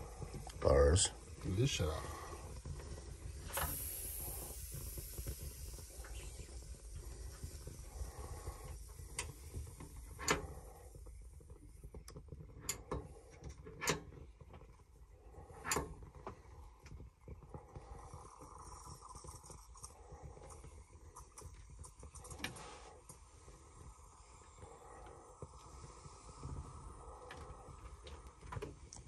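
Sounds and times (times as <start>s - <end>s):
stove burner flame hissing: 0.0s - 29.0s.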